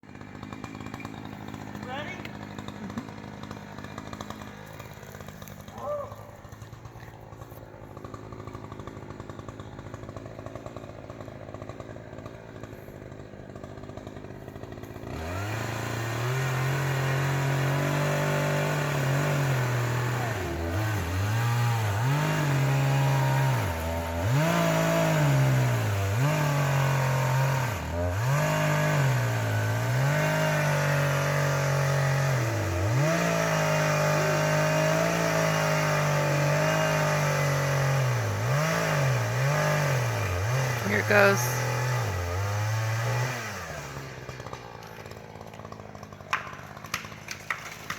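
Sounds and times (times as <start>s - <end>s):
chainsaw cutting into tree: 0.0s - 47.9s.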